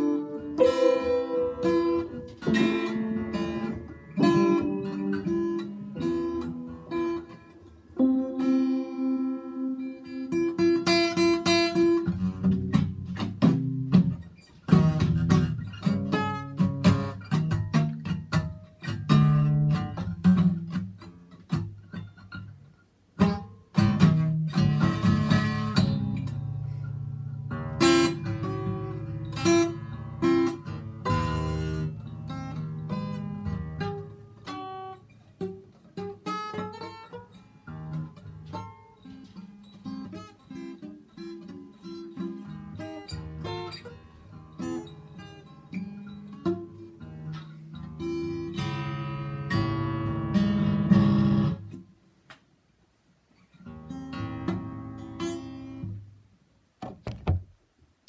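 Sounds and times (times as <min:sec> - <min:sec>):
acoustic guitar playing: 0:00.0 - 0:52.0, 0:53.4 - 0:56.2.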